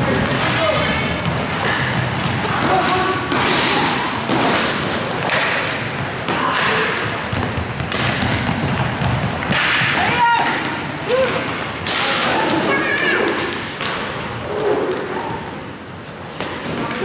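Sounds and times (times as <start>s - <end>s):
hockey sticks and puck clacking: 0.0s - 17.0s
inline skates on rink floor: 0.0s - 17.0s.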